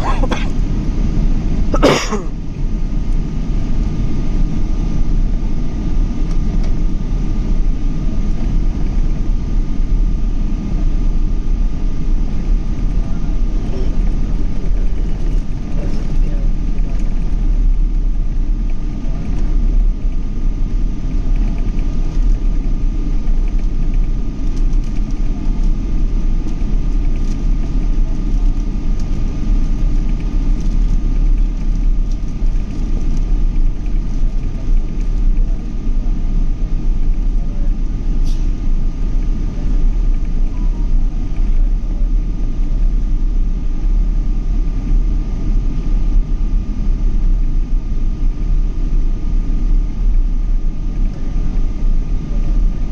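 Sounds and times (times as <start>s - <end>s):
jet engines rumbling in flight: 0.0s - 52.9s
thin constant whine: 0.0s - 52.9s.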